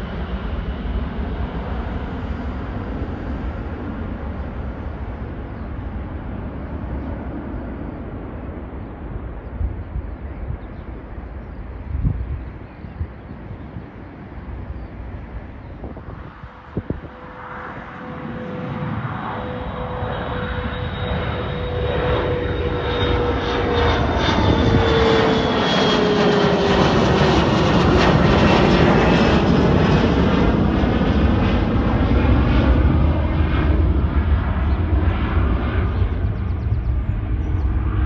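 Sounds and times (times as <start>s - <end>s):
descending jet whine: 0.0s - 38.0s
jet passing overhead: 0.0s - 38.0s
low jet rumble: 0.0s - 38.0s.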